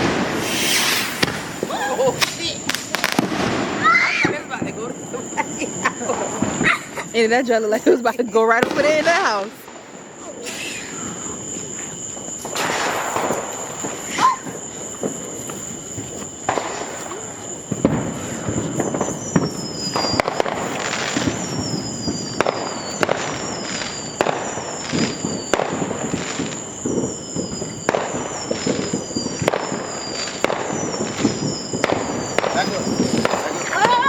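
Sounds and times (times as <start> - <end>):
fireworks bangs and crackles: 0.0 - 34.0
fireworks falling whistles: 0.0 - 34.0.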